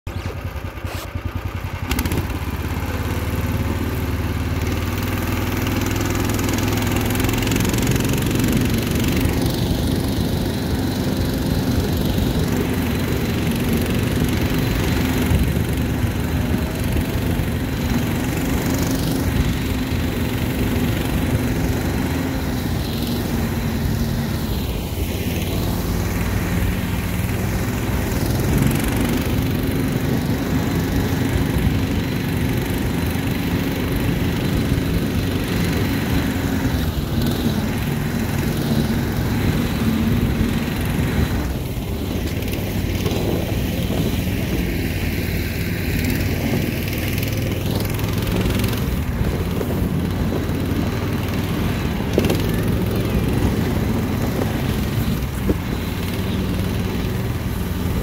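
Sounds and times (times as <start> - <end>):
small engine running: 0.1 - 58.0.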